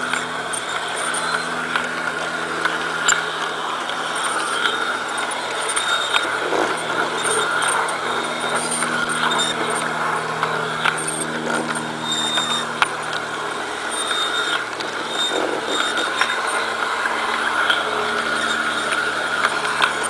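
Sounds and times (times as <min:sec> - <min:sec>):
model train motor humming: 0:00.0 - 0:20.0
wheels clicking on rails: 0:00.0 - 0:20.0.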